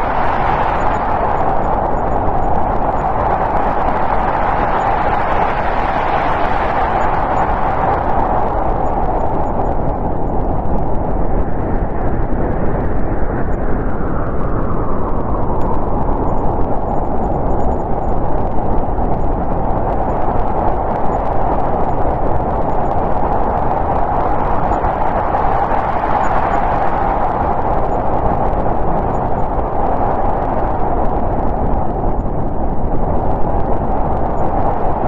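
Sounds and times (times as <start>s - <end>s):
wind howling: 0.0s - 35.0s.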